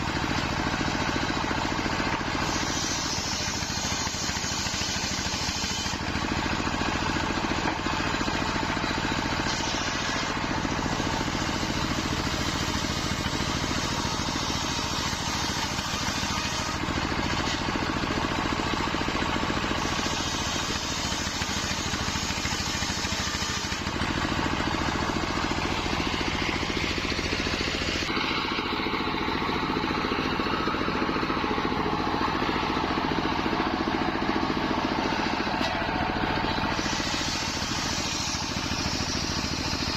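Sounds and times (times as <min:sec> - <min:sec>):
circular saw sawing wood: 0:00.0 - 0:39.9
engine-like drone: 0:00.0 - 0:39.9.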